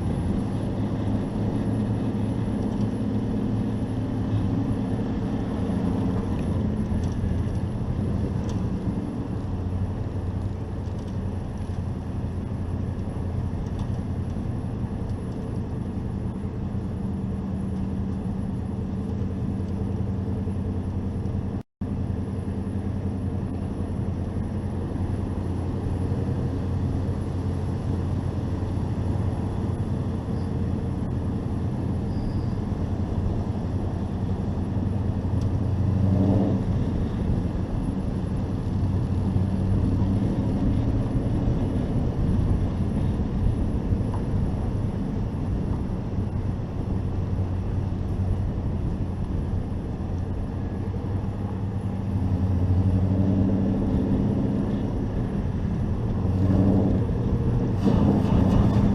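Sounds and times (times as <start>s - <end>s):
truck engine running under load: 0.0s - 58.9s.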